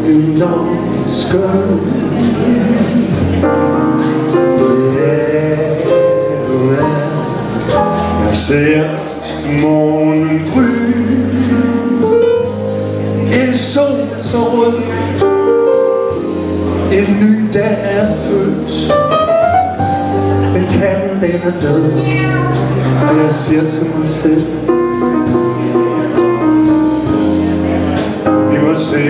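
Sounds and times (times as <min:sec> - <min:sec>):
double bass: 0:00.0 - 0:29.0
drums: 0:00.0 - 0:29.0
man singing into a microphone: 0:00.0 - 0:29.0
piano: 0:00.0 - 0:29.0.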